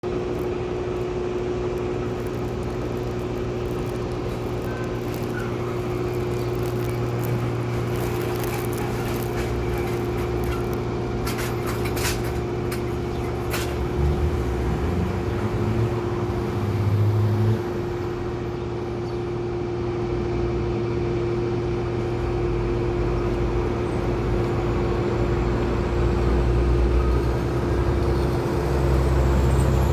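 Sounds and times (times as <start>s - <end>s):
motor vehicle rumble: 0.0s - 29.9s.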